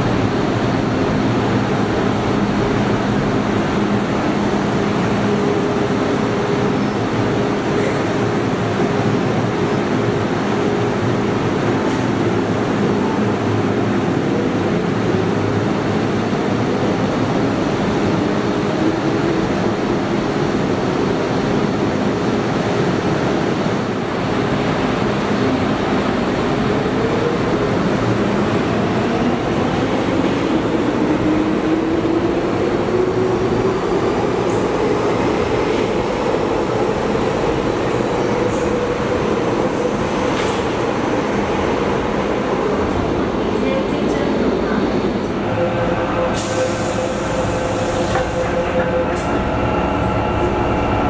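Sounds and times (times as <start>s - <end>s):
subway train humming: 0.0s - 51.0s.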